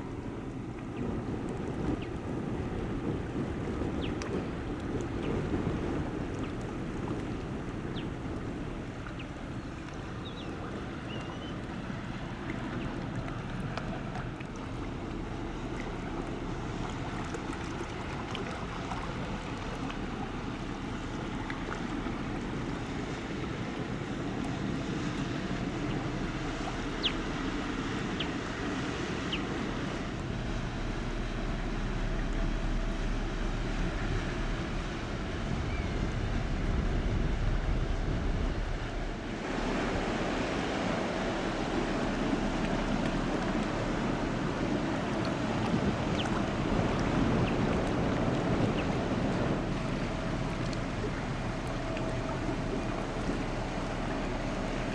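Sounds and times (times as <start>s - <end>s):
low hum: 0.0s - 54.9s
water rushing in ship wake: 0.0s - 54.9s
wind buffeting microphone: 0.0s - 54.9s.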